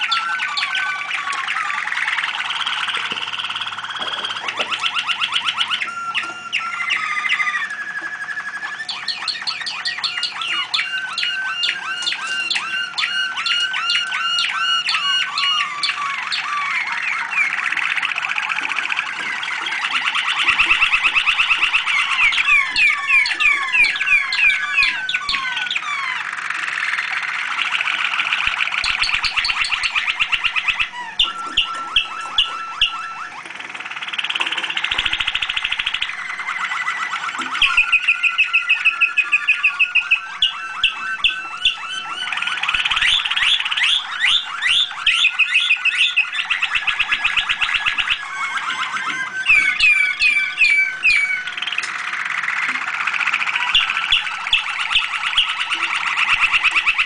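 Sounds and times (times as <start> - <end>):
canaries singing trills: 0.0 - 57.0.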